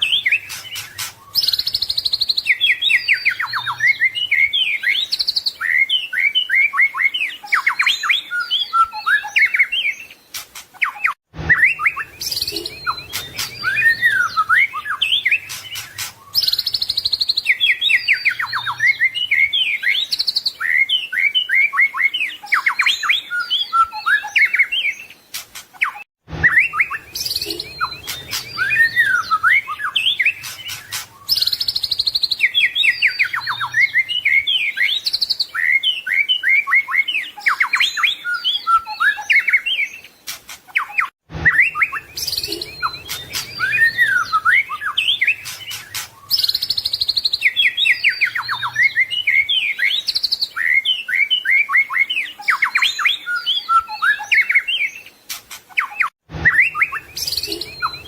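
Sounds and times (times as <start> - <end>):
songbird singing varied song: 0.0 - 58.0.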